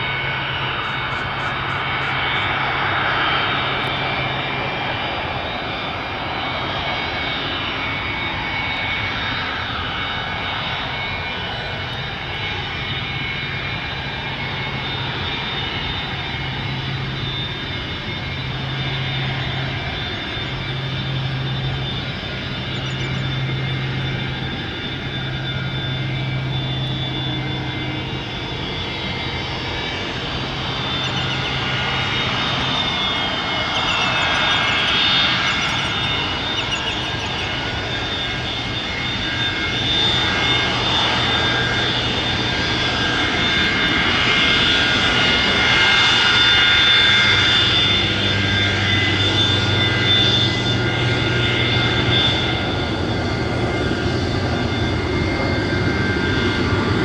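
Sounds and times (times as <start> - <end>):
jet engines roaring and whining: 0.0 - 57.0.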